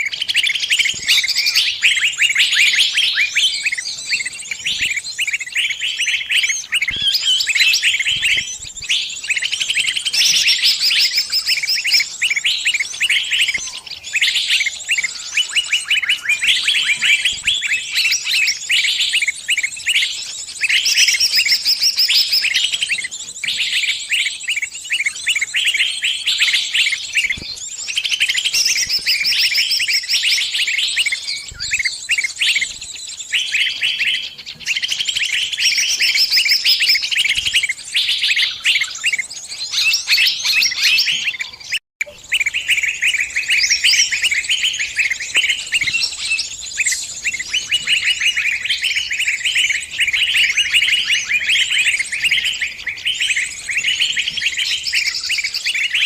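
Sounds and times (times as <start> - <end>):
small bird chirping and trilling: 0.0 - 56.0.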